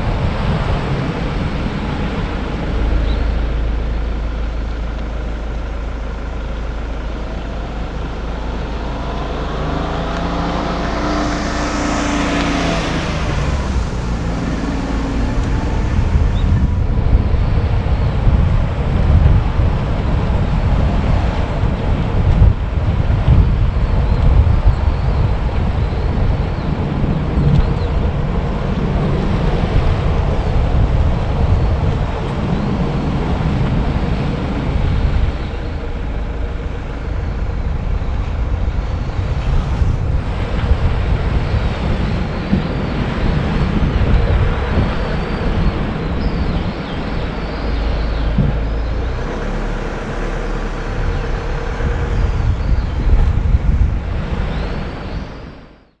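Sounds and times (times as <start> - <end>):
car engine and tyre rumble: 0.0 - 56.0
wind noise on microphone: 0.0 - 56.0.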